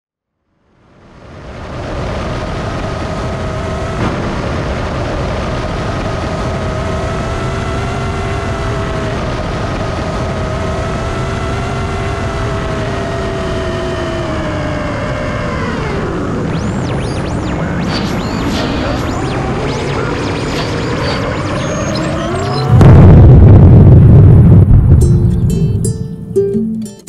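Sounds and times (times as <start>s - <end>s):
engine-like rumble with held tones: 1.6s - 26.0s.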